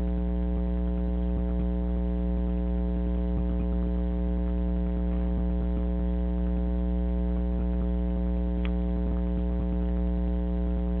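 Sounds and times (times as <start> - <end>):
faint ticks: 0.0 - 11.0
loud electrical hum: 0.0 - 11.0.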